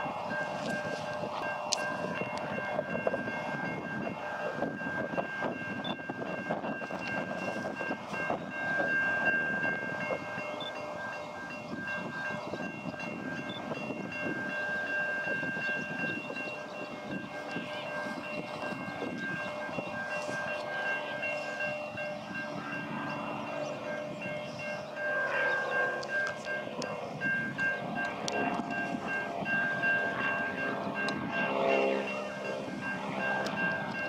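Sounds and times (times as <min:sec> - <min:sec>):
diesel train rumbling: 0:00.0 - 0:34.0
high ringing tone: 0:00.0 - 0:34.0.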